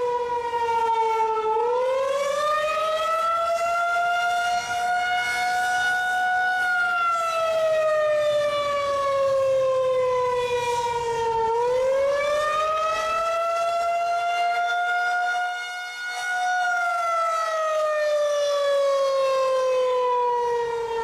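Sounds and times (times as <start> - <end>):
wailing warning siren: 0.0 - 21.0.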